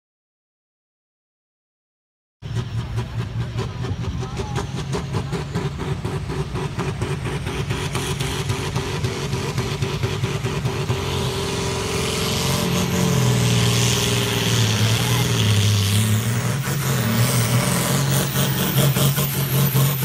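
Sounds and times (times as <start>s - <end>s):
diesel tractor engine at full load: 2.4s - 20.0s.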